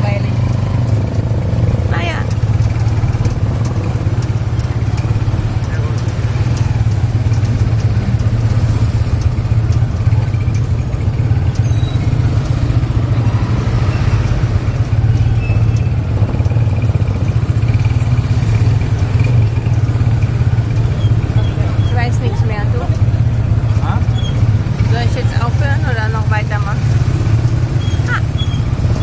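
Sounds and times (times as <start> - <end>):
motorcycle engine drone: 0.0 - 29.0.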